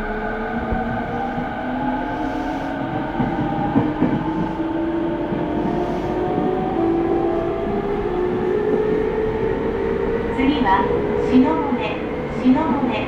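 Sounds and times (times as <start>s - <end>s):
wheel and rail noise: 0.0s - 13.0s.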